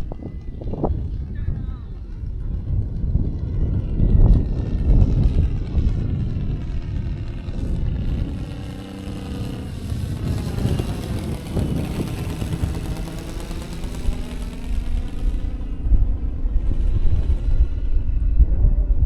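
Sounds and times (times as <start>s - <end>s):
model plane engine passing: 0.0s - 19.0s
wind rumble on microphone: 0.0s - 19.0s.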